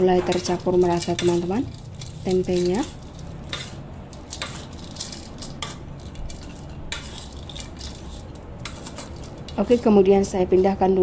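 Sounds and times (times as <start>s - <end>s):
utensil scraping a wok: 0.0s - 10.2s
fried food tossed in a wok: 0.3s - 10.0s.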